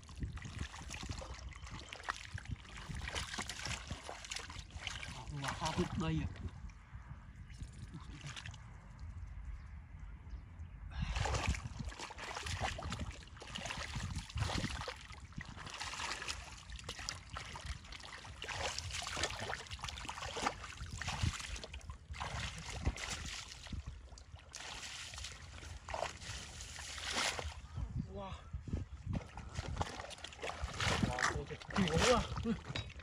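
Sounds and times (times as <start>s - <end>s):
water sloshing and splashing: 0.0s - 6.6s, 7.4s - 9.1s, 11.1s - 27.6s, 29.1s - 33.0s.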